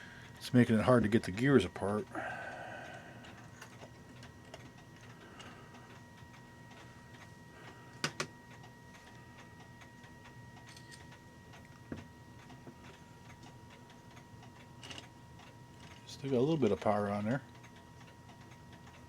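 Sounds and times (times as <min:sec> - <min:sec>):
faint clock ticking: 0:00.1 - 0:19.0.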